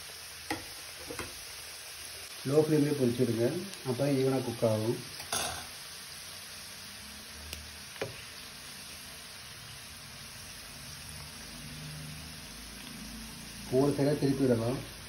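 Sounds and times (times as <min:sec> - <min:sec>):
pastries sizzling in oil: 0:00.0 - 0:15.0.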